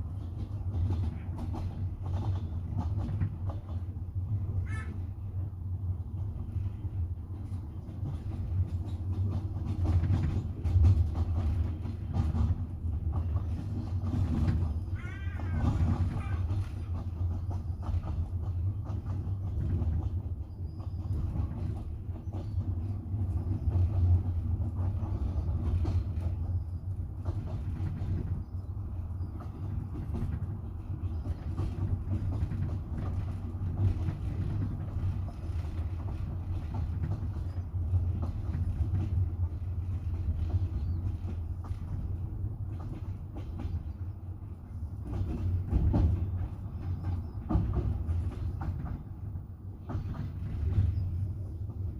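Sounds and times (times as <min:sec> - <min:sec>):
train wheels clattering over rails: 0:00.0 - 0:51.9.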